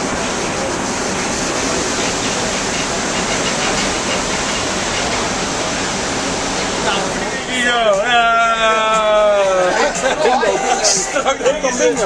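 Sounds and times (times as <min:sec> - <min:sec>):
steady loud rushing noise: 0:00.0 - 0:12.0.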